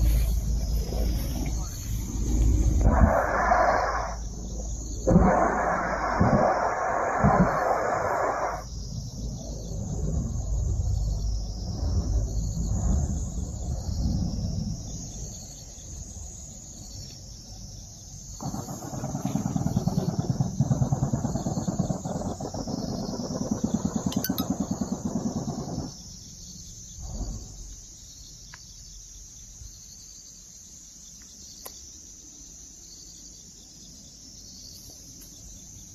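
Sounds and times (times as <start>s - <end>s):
insects chirring: 0.0s - 35.9s.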